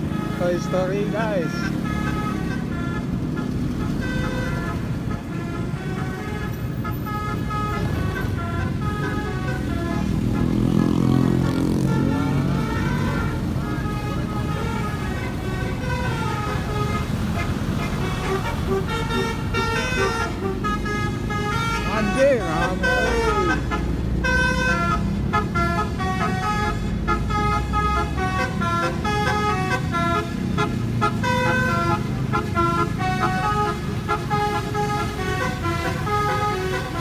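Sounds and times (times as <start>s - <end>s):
engine and traffic rumble: 0.0s - 37.0s
loud low vehicle rumble: 0.0s - 37.0s
multi-tone horn playing a tune: 0.0s - 37.0s.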